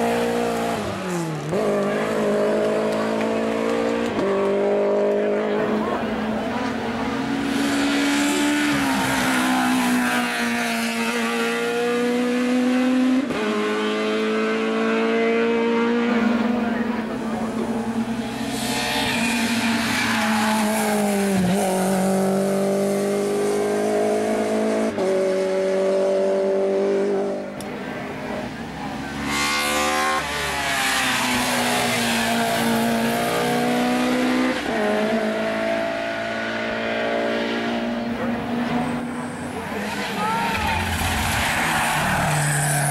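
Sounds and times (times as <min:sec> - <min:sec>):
race car engines revving: 0:00.0 - 0:42.9.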